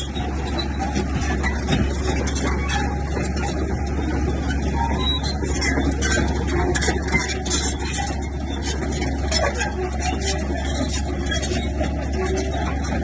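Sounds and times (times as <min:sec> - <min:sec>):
bulldozer engine droning: 0:00.0 - 0:13.0
metal rattling and clanking: 0:00.0 - 0:13.0.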